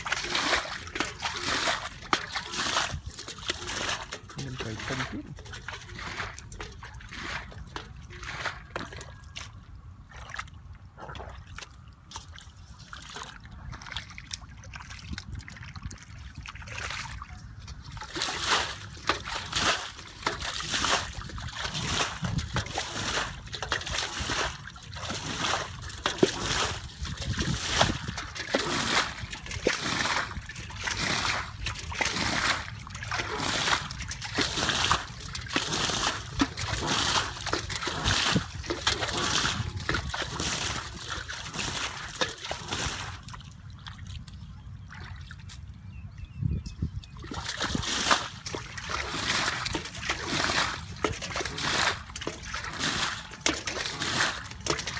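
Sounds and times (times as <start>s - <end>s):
splashing through shallow water: 0.0s - 54.9s.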